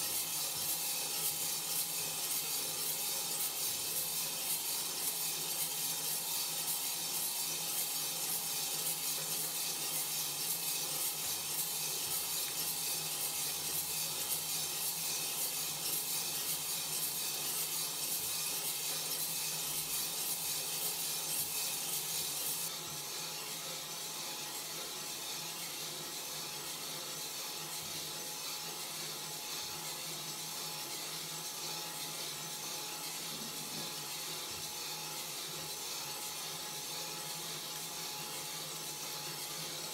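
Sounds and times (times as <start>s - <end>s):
coffee beans tumbling in drum: 0.0s - 39.9s.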